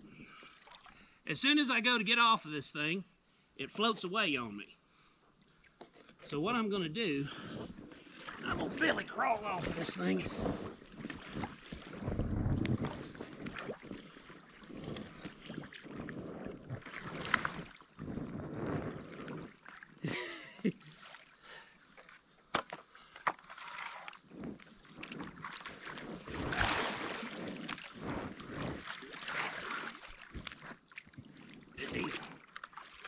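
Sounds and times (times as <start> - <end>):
water splashing and sloshing: 0.0 - 1.2, 5.9 - 33.0.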